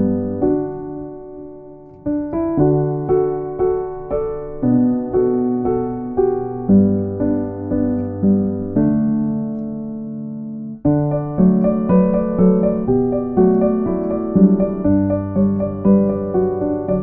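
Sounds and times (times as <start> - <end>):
slow gentle piano melody: 0.0 - 17.0.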